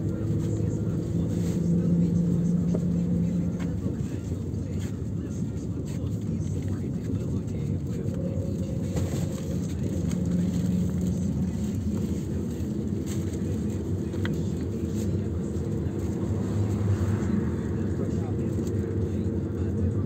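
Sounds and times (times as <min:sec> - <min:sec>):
low engine hum: 0:00.0 - 0:20.0
road rumble: 0:00.0 - 0:20.0.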